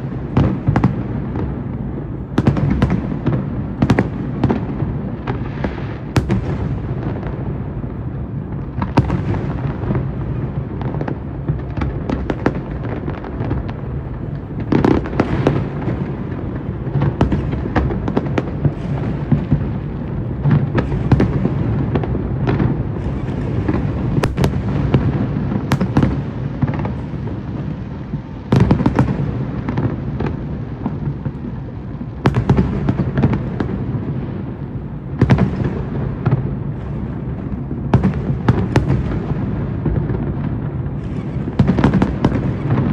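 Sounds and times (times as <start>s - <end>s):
big fireworks bangs: 0.0s - 42.9s
fireworks bursts: 0.0s - 42.9s
fireworks cracks and pops: 0.0s - 42.9s.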